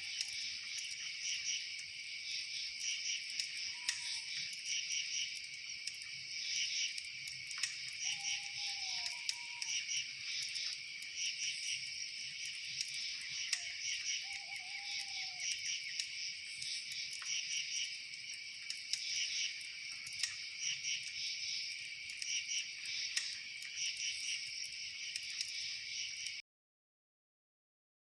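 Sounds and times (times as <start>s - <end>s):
campfire crackling and popping: 0.0s - 26.4s
insect chorus trilling: 0.0s - 26.4s.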